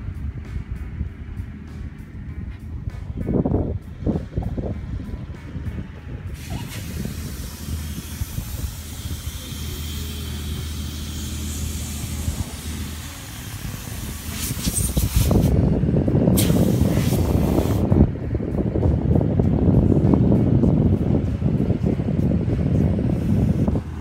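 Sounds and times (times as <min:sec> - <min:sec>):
low hum: 0:00.0 - 0:24.0
wind hiss on microphone: 0:02.6 - 0:24.0.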